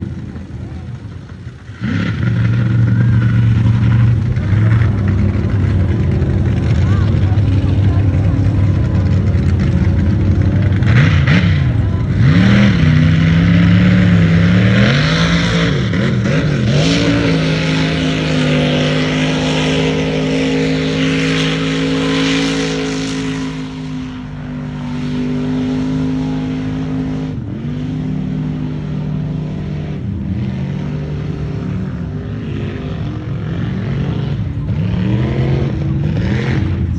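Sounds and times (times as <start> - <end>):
truck engine revving: 0.0 - 36.9.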